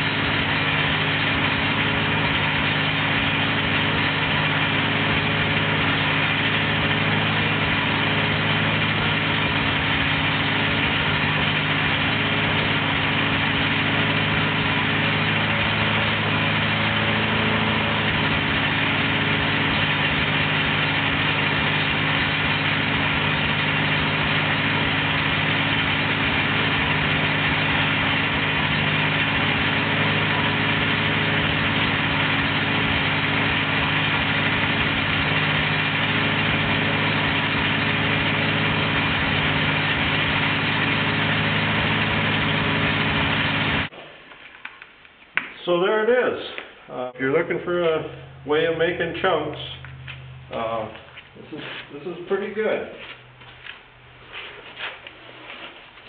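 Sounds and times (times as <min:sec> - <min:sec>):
tractor engine running: 0:00.0 - 0:44.0, 0:47.2 - 0:56.0.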